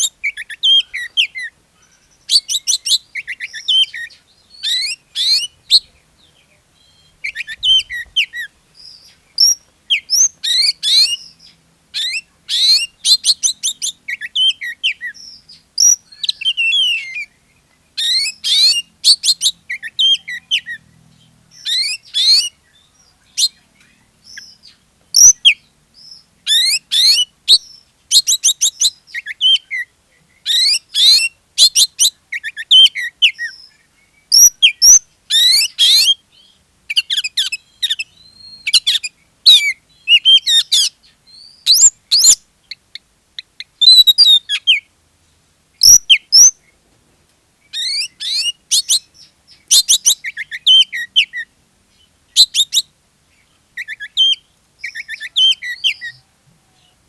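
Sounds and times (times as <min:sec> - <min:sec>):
songbird whistling song: 0:00.0 - 0:44.9, 0:45.8 - 0:46.8, 0:47.6 - 0:57.0.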